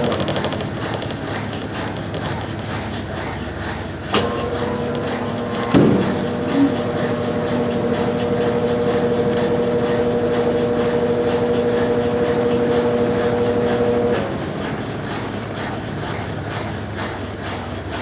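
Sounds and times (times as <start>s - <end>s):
washing machine knock: 0.0s - 16.4s
washing machine motor humming: 0.0s - 18.0s.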